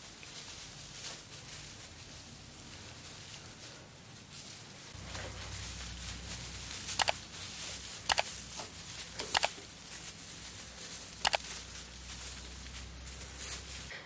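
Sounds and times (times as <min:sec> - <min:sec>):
faint rustling: 0:00.0 - 0:13.9.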